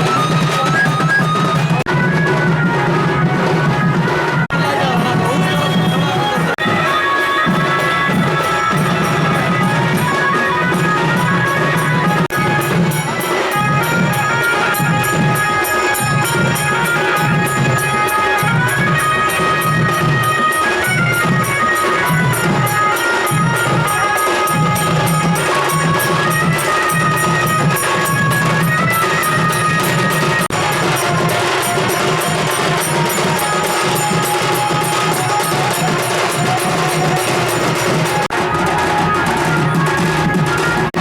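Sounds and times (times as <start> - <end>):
loud music with percussion beat: 0.0 - 41.0.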